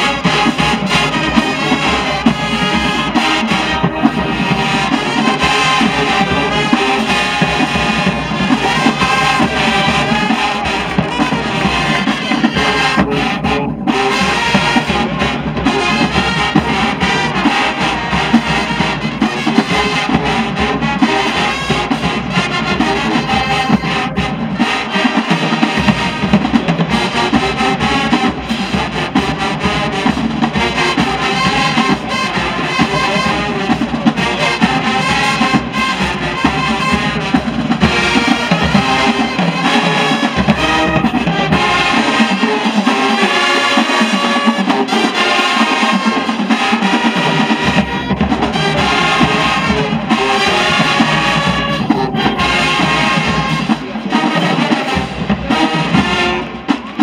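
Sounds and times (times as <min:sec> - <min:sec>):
marching band playing: 0:00.0 - 0:57.0.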